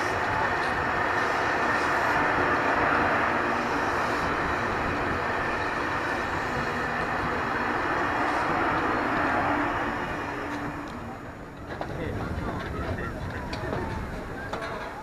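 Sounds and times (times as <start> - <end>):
electric train running past: 0.0 - 15.0.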